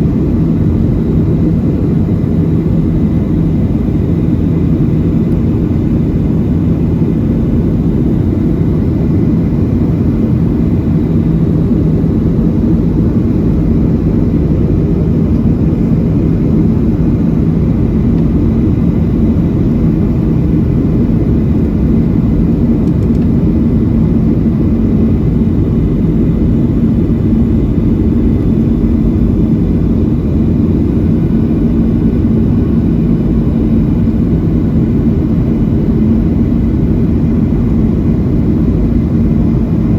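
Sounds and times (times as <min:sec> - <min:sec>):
jet engines roaring: 0:00.0 - 0:39.9
low hum: 0:00.0 - 0:39.9.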